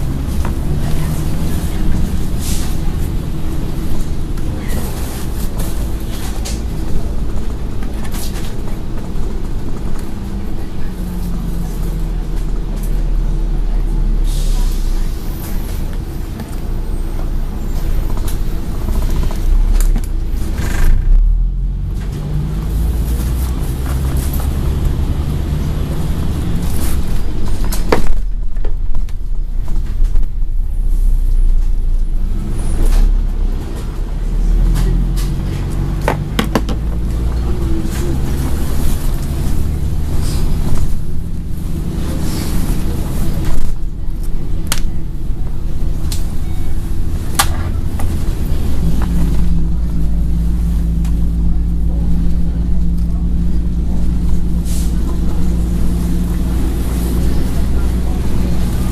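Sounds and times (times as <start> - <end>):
bus body rattling: 0.0 - 58.9
bus engine rumble: 0.0 - 58.9.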